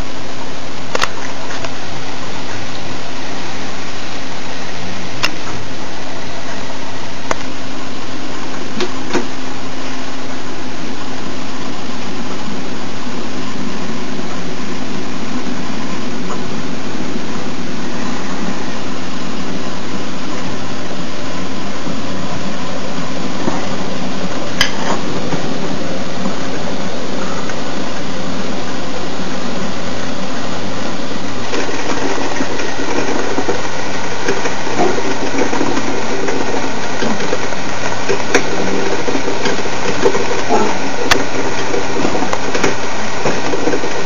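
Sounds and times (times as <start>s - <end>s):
espresso machine buzzing hum: 0.0s - 44.0s.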